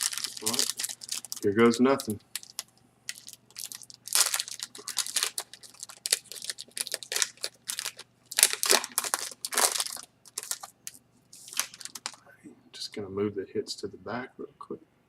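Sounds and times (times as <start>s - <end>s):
card packaging crinkling: 0.0s - 12.2s.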